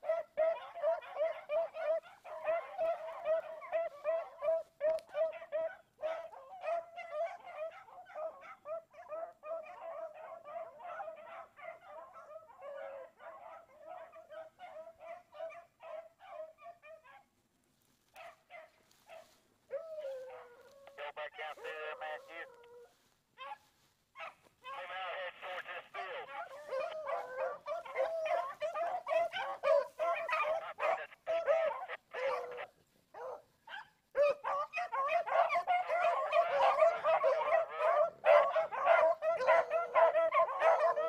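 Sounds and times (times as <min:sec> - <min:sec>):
hounds baying and yelping: 0:00.0 - 0:41.0.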